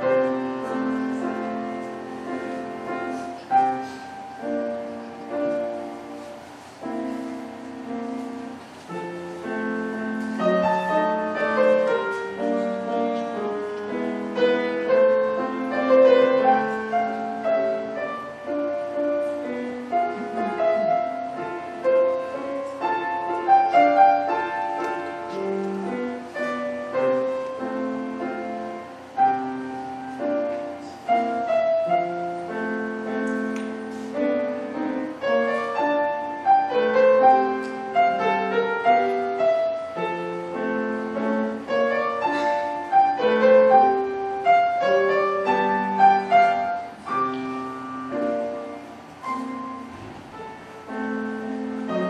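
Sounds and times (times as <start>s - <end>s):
solo grand piano: 0.0s - 52.0s.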